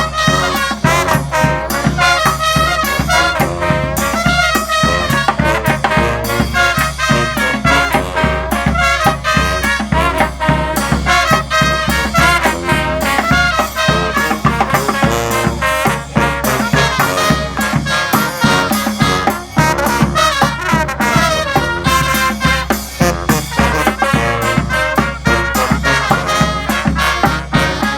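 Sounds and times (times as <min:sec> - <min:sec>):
brass band playing: 0:00.0 - 0:27.9
steady drum beat: 0:00.0 - 0:27.9.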